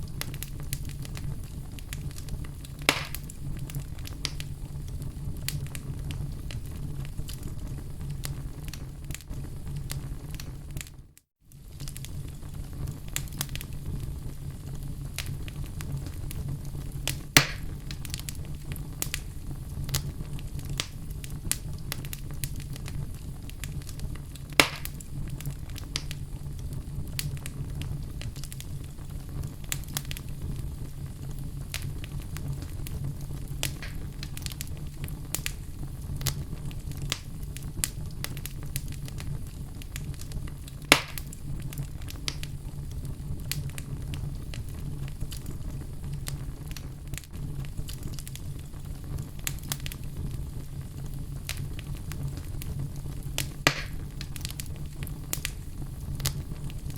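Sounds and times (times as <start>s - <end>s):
fire pops: 0.0s - 56.9s
wood fire rumbling and crackling: 0.0s - 56.9s.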